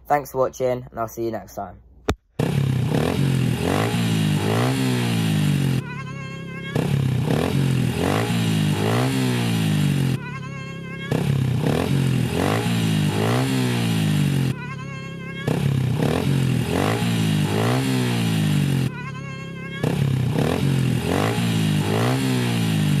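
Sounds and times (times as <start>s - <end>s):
small motorbike engine revving: 2.4s - 23.0s.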